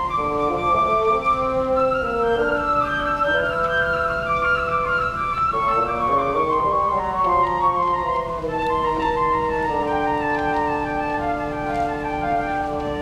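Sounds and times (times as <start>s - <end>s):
bassoon playing: 0.0s - 13.0s
woodwind melody: 0.0s - 13.0s.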